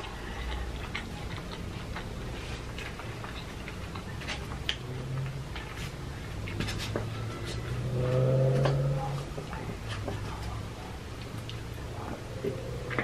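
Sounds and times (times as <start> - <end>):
low drawn-out hum: 0.0 - 13.0.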